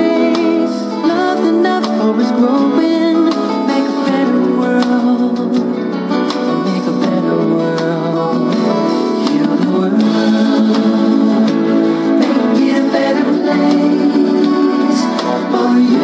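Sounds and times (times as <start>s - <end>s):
recorded music with guitar and beat: 0.0s - 16.0s.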